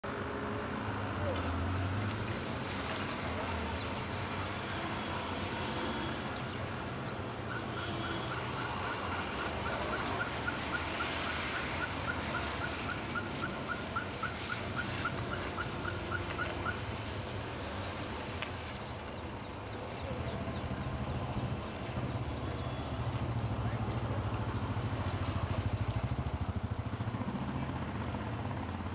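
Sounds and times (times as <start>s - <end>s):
road traffic rumble: 0.0s - 28.9s.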